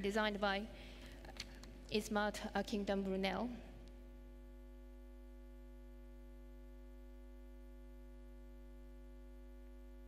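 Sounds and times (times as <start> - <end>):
faint mains hum: 0.0 - 10.0.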